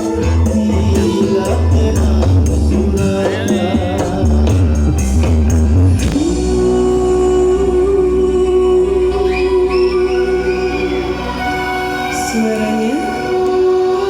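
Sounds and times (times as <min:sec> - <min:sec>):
loud music with heavy bass: 0:00.0 - 0:14.0
singing: 0:00.0 - 0:14.0.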